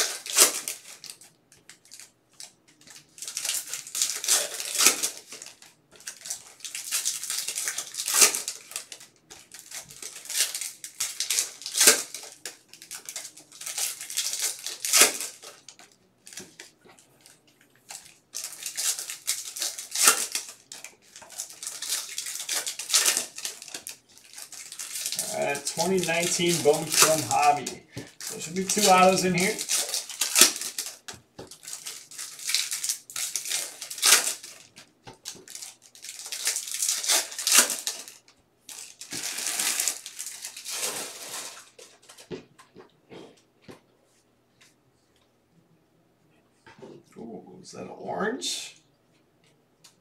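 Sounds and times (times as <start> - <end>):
foil wrappers crinkling and tearing: 0.0 - 42.3
cards being handled: 0.0 - 42.5.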